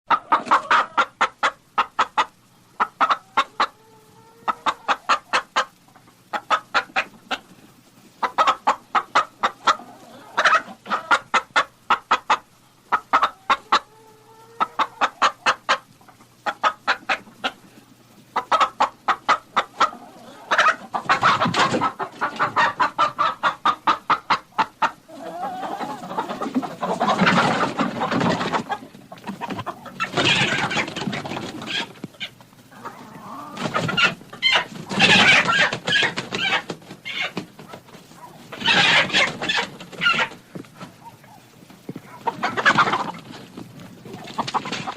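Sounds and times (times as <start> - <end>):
chickens clucking: 0.1 - 44.9.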